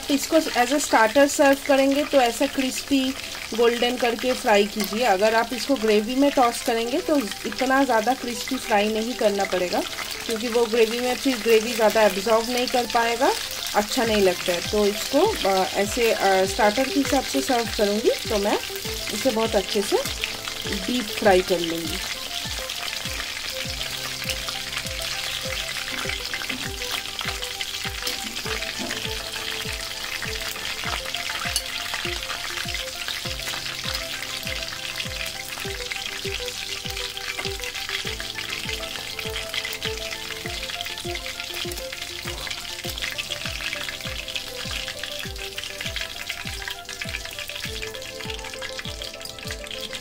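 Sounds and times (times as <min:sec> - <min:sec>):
food sizzling in hot oil: 0:00.0 - 0:50.0
soft background music with beat: 0:01.8 - 0:50.0.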